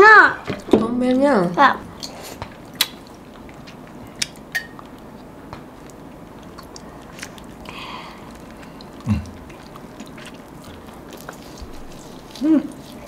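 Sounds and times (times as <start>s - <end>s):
people chewing food: 1.9s - 13.0s.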